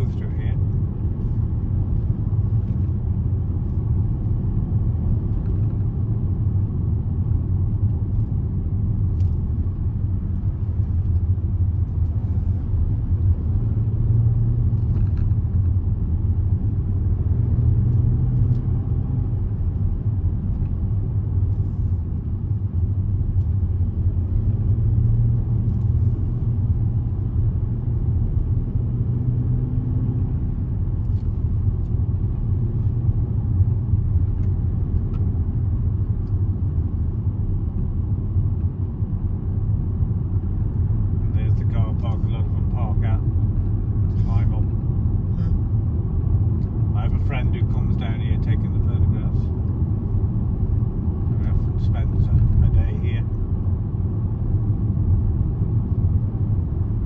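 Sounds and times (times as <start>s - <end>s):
car cabin road and engine rumble: 0.0s - 57.0s.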